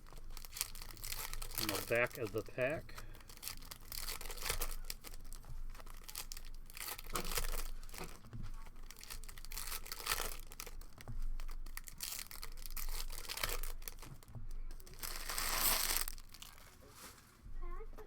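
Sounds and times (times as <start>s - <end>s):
foil wrappers tearing and crinkling: 0.0s - 17.4s.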